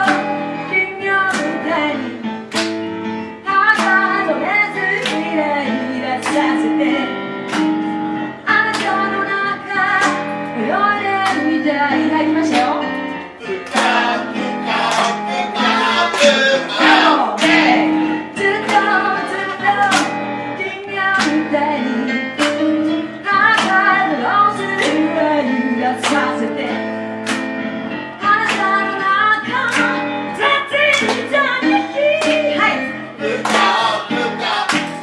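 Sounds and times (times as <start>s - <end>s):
woman singing into microphone: 0.0s - 2.4s, 3.4s - 7.2s, 8.4s - 15.3s, 16.8s - 27.0s, 28.2s - 33.5s
electric keyboard: 0.0s - 35.0s.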